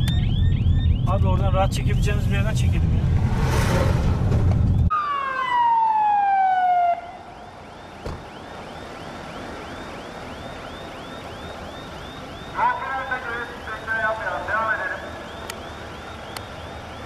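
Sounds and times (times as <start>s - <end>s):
emergency vehicle siren: 0.0s - 2.9s, 4.4s - 17.0s.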